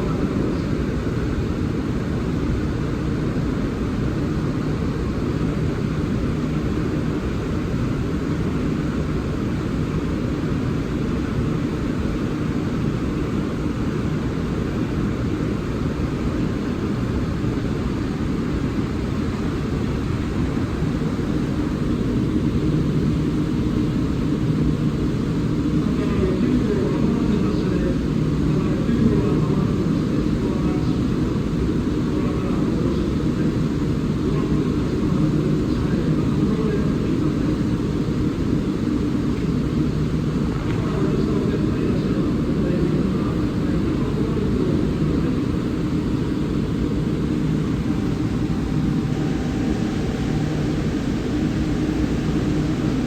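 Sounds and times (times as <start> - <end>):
faint steady hum: 0.0 - 53.0
railway platform ambience rumble: 0.0 - 53.0.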